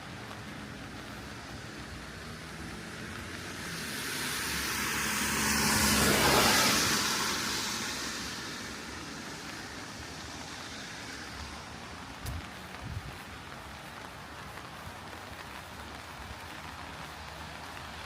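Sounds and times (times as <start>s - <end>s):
car tyres hissing on wet road: 0.0s - 18.0s
steady rain: 0.0s - 18.0s.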